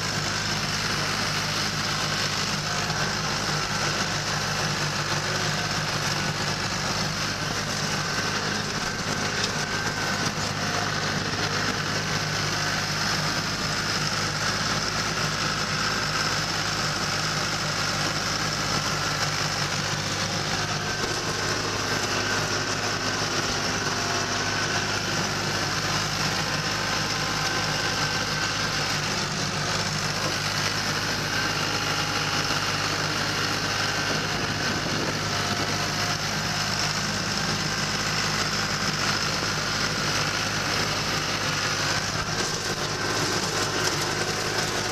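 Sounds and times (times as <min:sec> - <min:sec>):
tractor mower engine running: 0:00.0 - 0:44.9.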